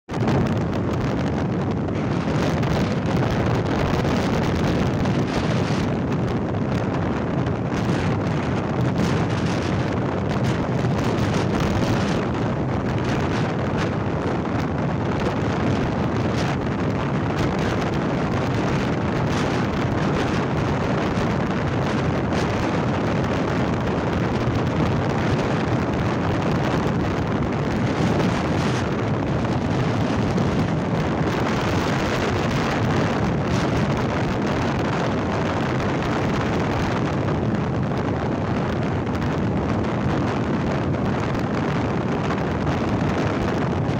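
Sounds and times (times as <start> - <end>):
wind buffeting microphone: 0.1 - 43.9.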